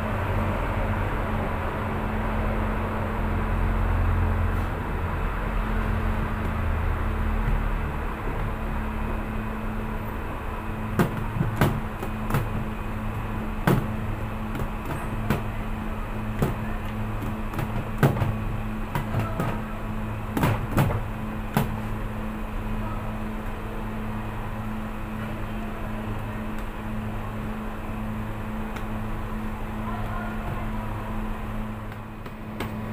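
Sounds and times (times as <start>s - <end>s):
steady mechanical hum: 0.0s - 32.9s.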